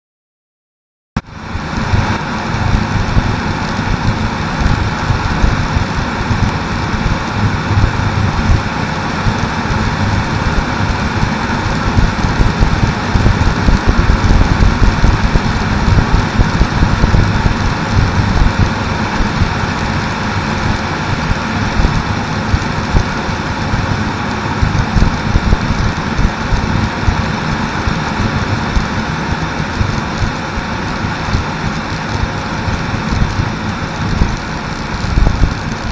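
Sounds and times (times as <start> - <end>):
ultralight engine and propeller droning: 1.2 - 35.9
wind buffeting on microphone: 1.3 - 35.9.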